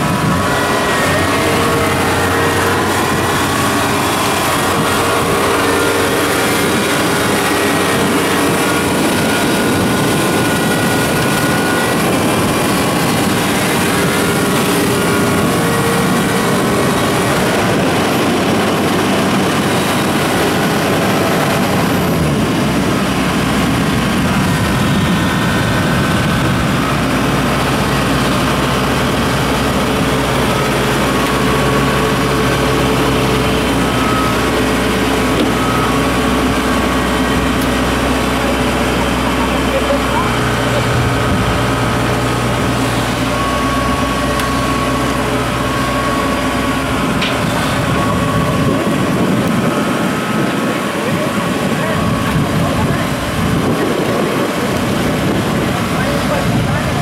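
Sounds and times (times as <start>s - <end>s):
deeper hum: 0.0s - 57.0s
diesel engine running: 0.0s - 57.0s.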